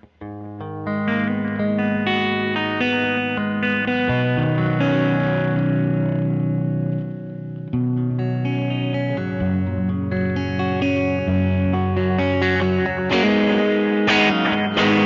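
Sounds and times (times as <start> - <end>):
fuzzy distorted electric guitar: 0.0 - 15.0.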